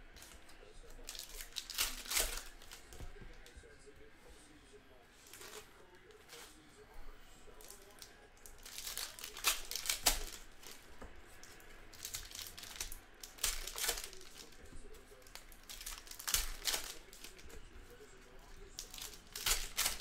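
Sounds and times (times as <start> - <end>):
wrappers crinkling and tearing: 0.2 - 3.6, 5.2 - 6.6, 7.5 - 20.0.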